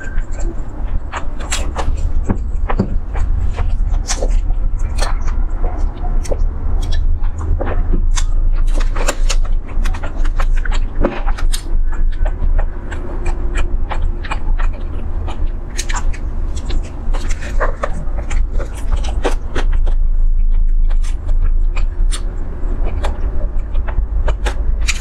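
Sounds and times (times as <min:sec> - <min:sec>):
chewing with mouth clicks: 0:00.0 - 0:25.0
low rumble: 0:00.0 - 0:25.0.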